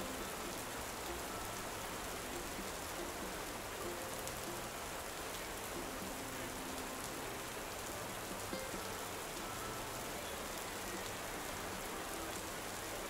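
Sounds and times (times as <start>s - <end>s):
rain on foliage and paving: 0.0s - 13.0s.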